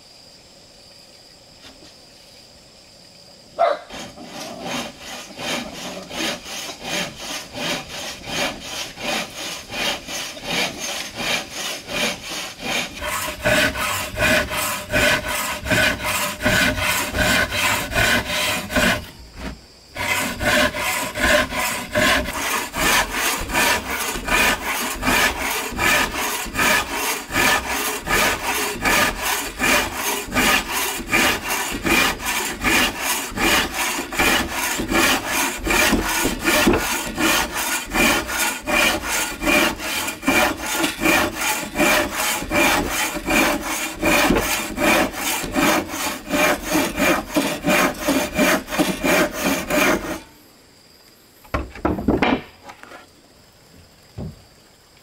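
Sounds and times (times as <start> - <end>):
hand saw cutting wood: 3.8 - 50.3.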